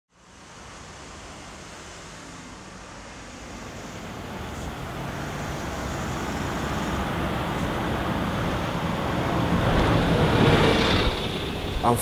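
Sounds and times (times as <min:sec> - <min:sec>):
street traffic rushing hiss: 0:00.1 - 0:12.0.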